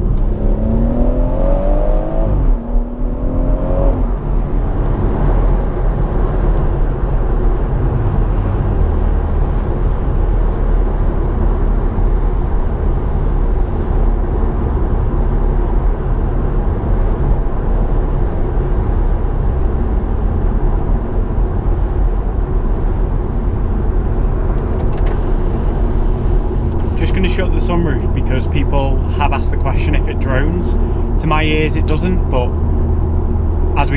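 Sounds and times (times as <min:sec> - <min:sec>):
low engine and exhaust note: 0:00.0 - 0:33.9.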